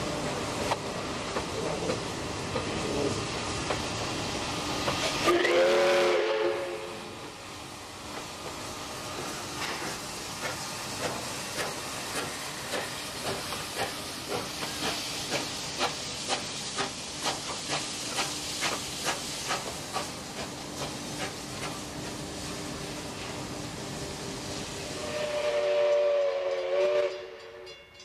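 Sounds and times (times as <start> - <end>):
steam hissing: 0.0 - 27.6
steam locomotive exhaust chuffs: 1.4 - 28.0.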